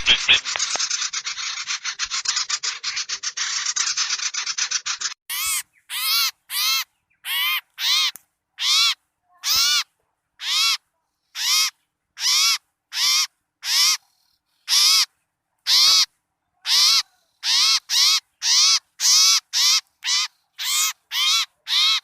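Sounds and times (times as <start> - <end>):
harsh rasping bird calls: 0.0 - 22.0.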